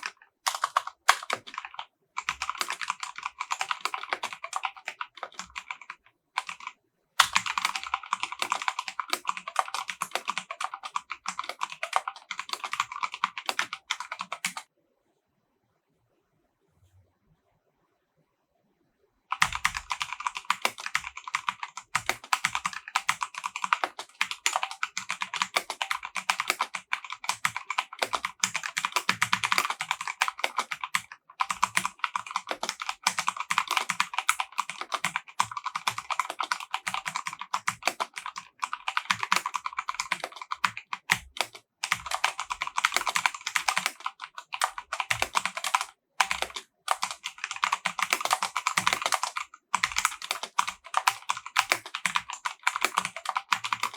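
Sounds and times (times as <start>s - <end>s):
mechanical keyboard typing: 0.0s - 14.7s, 19.3s - 53.9s.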